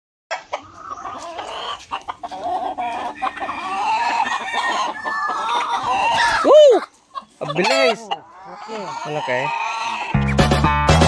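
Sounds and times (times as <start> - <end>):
chickens clucking: 0.3 - 10.6.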